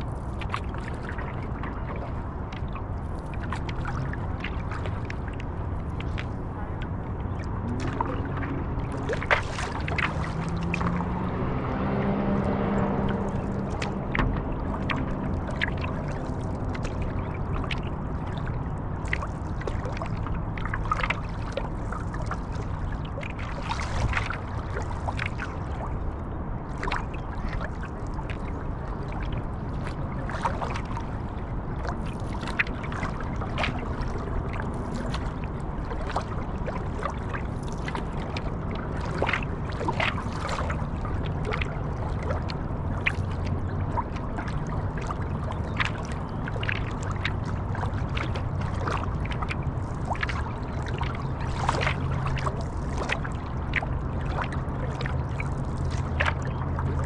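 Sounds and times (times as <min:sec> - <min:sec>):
low droning hum: 0:00.0 - 0:57.0
paddle strokes splashing: 0:00.0 - 0:57.0
water swishing and lapping: 0:00.0 - 0:57.0.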